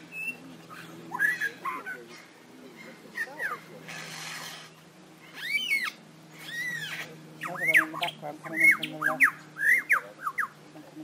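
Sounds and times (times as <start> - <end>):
lyrebird whistled calls: 0.0 - 2.2, 2.8 - 10.6.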